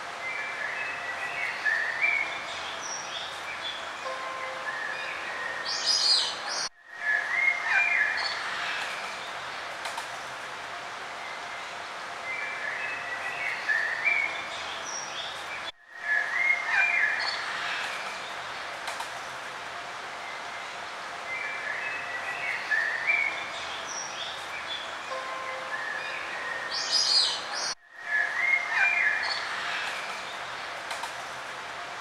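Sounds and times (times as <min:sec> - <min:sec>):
steady background hiss: 0:00.0 - 0:32.0
birds chirping and warbling: 0:00.3 - 0:09.8, 0:11.2 - 0:19.0, 0:20.1 - 0:31.1.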